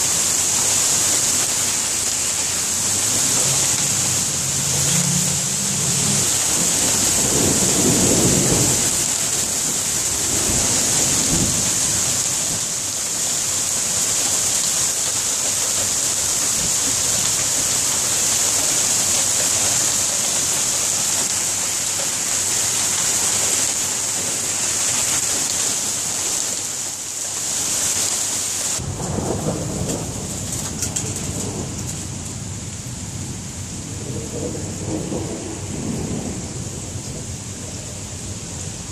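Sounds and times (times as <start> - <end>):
heavy rain and hail: 0.0 - 38.9.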